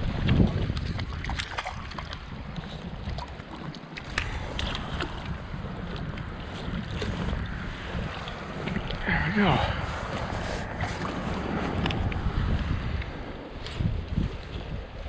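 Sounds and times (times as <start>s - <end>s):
flowing water rushing: 0.0s - 15.0s
wind buffeting microphone: 0.0s - 15.0s.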